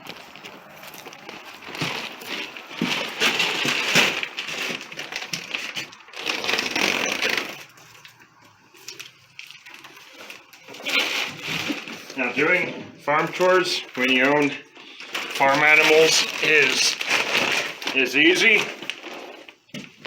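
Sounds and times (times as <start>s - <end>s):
feed bag rustling and crunching: 0.0s - 8.2s, 8.8s - 20.0s.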